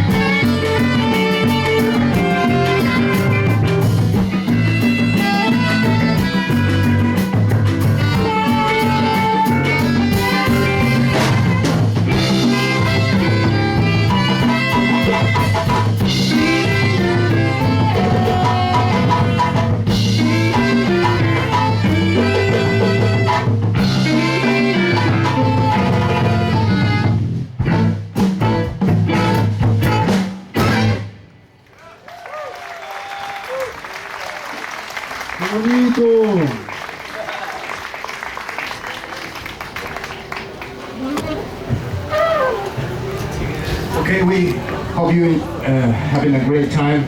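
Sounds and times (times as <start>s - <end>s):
live band playing: 0.0s - 31.6s, 33.4s - 47.0s.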